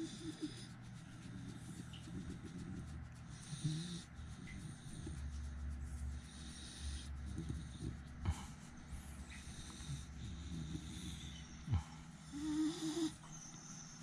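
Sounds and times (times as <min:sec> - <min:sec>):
hand rubbing dog's face: 0:00.0 - 0:11.7
dog breathing through nose: 0:00.0 - 0:14.0.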